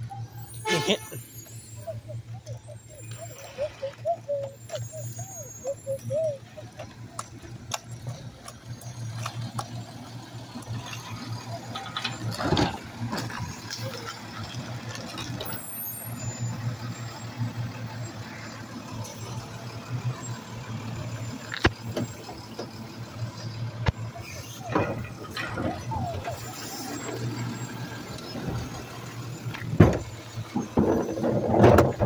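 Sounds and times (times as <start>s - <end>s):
garbage truck running: 0.0s - 32.0s
trash cart clattering: 0.5s - 32.0s.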